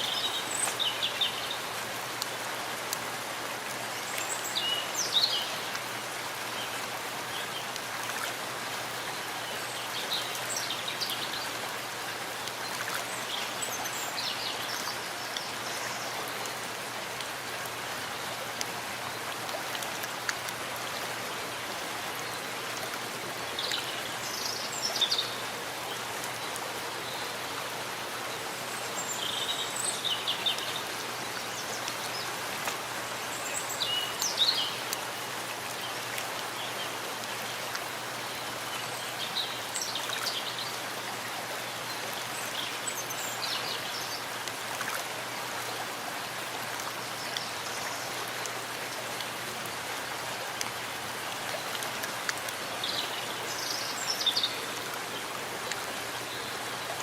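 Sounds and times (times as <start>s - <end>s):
steady rain in forest: 0.0s - 57.0s.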